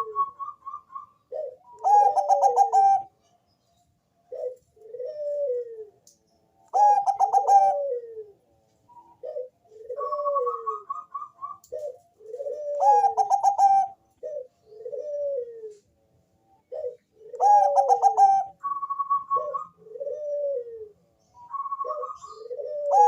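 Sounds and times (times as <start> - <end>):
dove cooing: 0.0 - 3.2, 4.2 - 6.0, 6.7 - 23.0.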